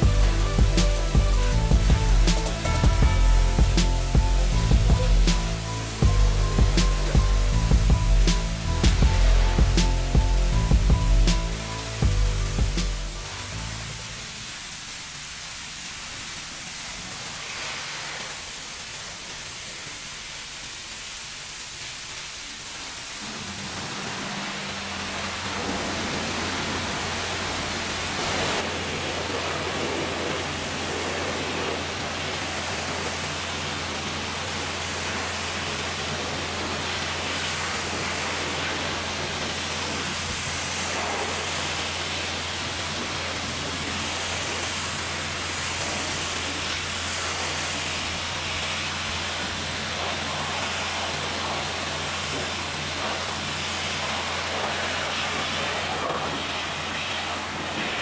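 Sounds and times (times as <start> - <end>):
low hum: 0.0 - 15.2, 22.8 - 58.0
pressure washer spray hissing: 0.0 - 58.0.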